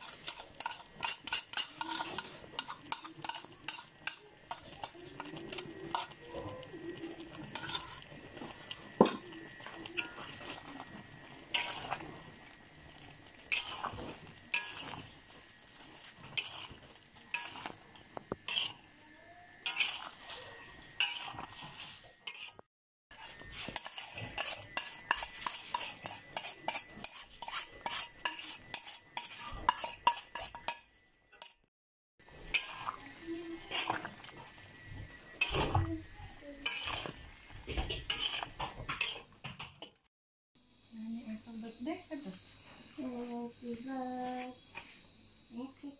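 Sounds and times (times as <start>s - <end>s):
spatula scraping a wok: 0.0s - 31.6s, 32.2s - 40.0s
food sizzling: 0.0s - 40.1s, 40.9s - 45.9s.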